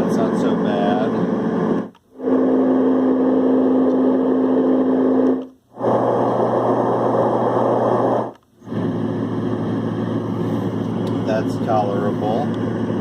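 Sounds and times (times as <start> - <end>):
white noise machine rushing: 0.0 - 13.0.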